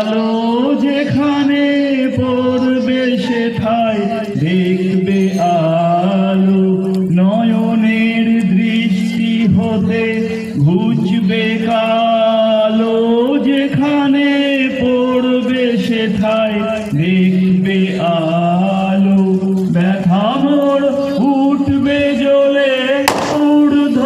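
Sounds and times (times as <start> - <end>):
person chanting in long held notes: 0.0 - 24.0.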